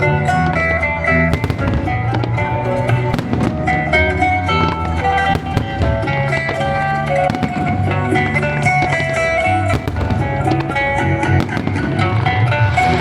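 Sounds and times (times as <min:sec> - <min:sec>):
fireworks bursting: 0:00.0 - 0:13.0
plucked string music: 0:00.0 - 0:13.0.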